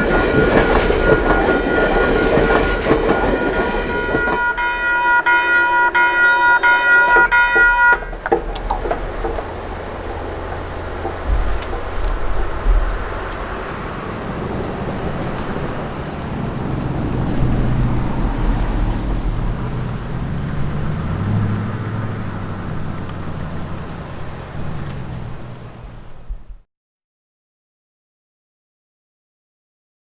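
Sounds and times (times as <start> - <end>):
diesel train engine droning: 0.0 - 26.6.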